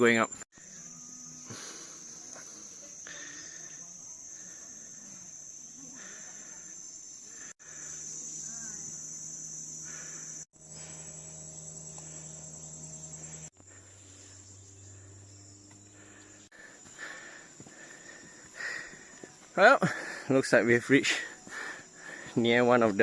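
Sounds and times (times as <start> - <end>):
shrill chorus of insects: 0.0 - 23.0.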